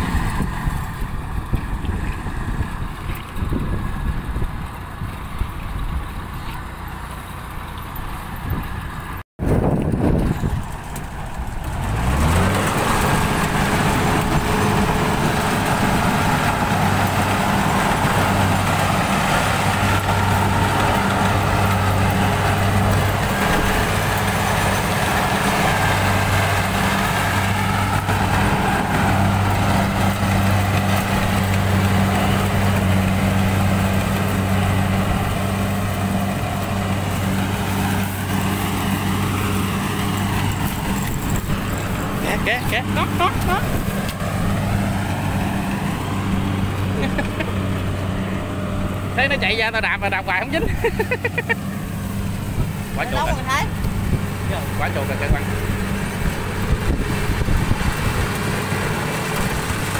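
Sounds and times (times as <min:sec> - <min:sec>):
combine harvester engine and machinery: 0:00.0 - 0:59.9.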